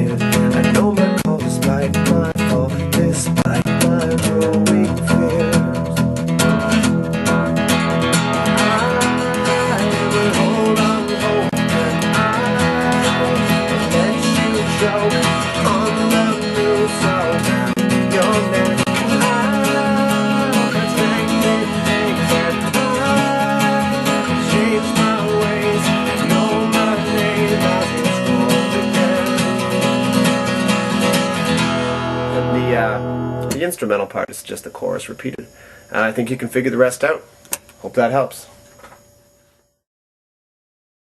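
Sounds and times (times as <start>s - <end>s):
acoustic guitar strumming: 0.0s - 38.4s.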